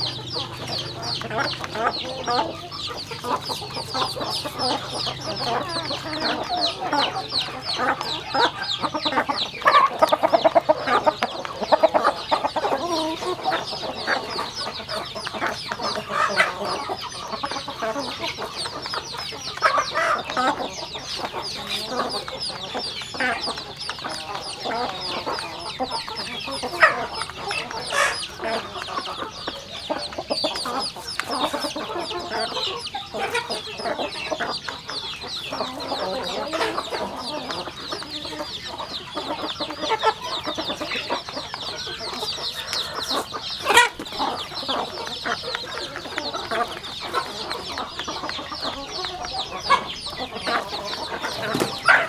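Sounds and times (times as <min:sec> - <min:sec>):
chicks peeping: 0:00.0 - 0:52.0
hens clucking: 0:00.0 - 0:52.0.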